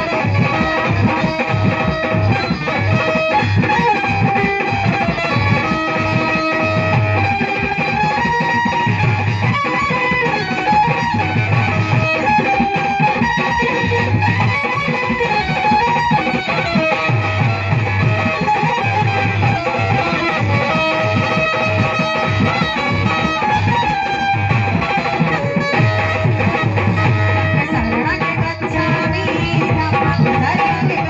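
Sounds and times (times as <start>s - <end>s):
band playing instrumental: 0.0s - 31.0s.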